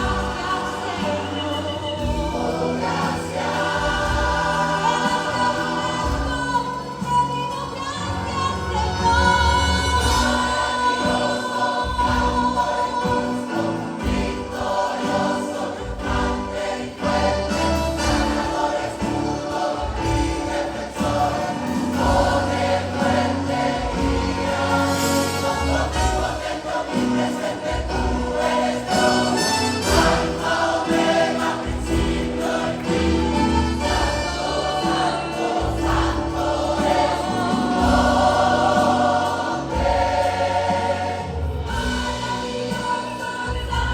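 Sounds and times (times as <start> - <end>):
choir singing worship song: 0.0 - 43.9
instrumental accompaniment: 0.0 - 43.9.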